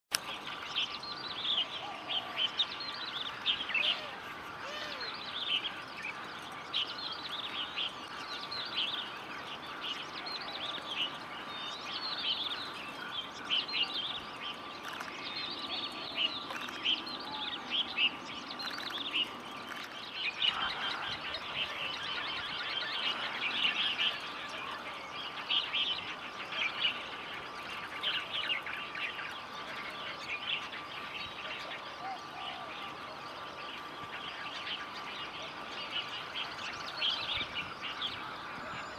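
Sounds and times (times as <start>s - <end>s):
birds twittering: 0.1s - 38.9s.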